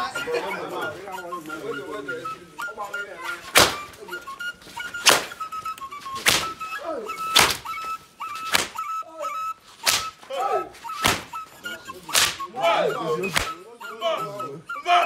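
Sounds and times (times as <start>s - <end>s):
held high tone: 0.0s - 15.0s
voices: 0.0s - 15.0s.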